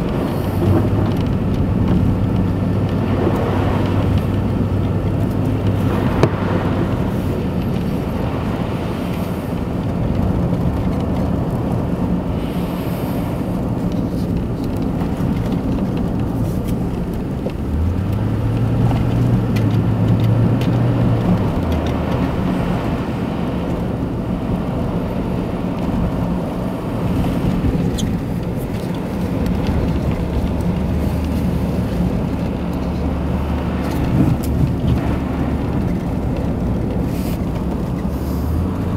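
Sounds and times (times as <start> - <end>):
car engine hum: 0.0 - 38.9
tyre and road noise: 0.0 - 38.9.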